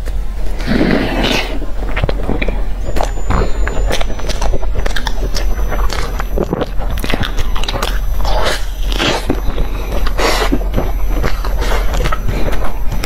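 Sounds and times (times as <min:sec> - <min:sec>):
person chewing food: 0:00.6 - 0:13.0
mouth clicks and smacks: 0:01.8 - 0:13.0.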